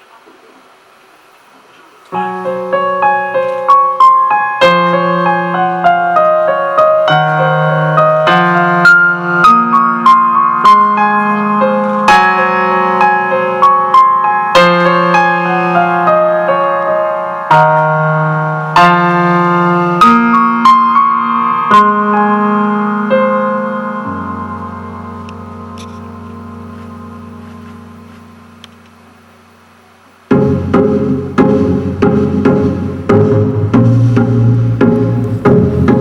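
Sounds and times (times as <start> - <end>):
electric piano chords: 1.9 - 36.0.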